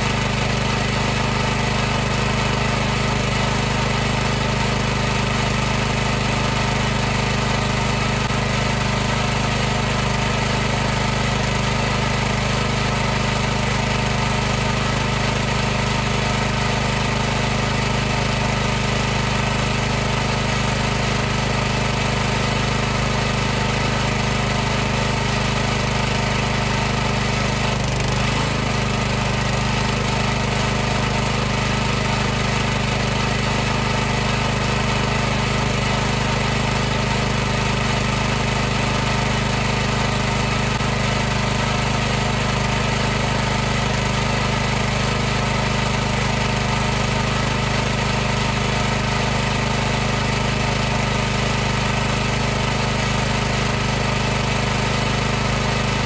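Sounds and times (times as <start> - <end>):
pressure washer running: 0.0 - 56.0.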